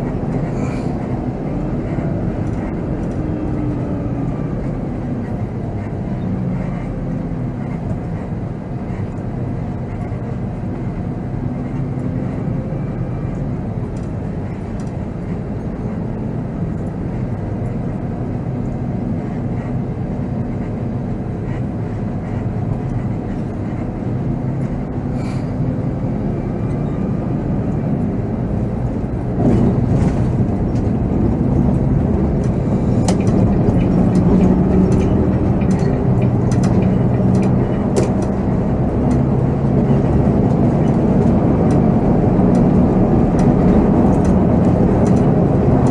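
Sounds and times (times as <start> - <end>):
diesel engine running: 0.0 - 45.9
road and cabin noise: 0.0 - 45.9.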